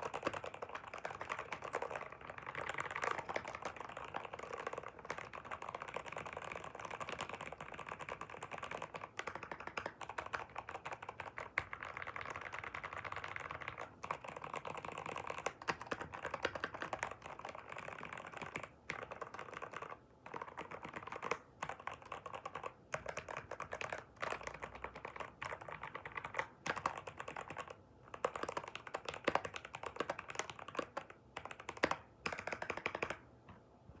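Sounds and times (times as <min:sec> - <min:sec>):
computer keyboard typing: 0:00.0 - 0:33.6.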